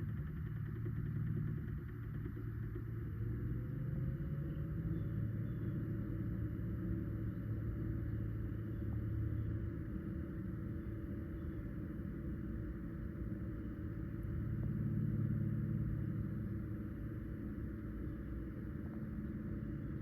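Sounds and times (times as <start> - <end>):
cooling fan droning hum: 0.0 - 20.0.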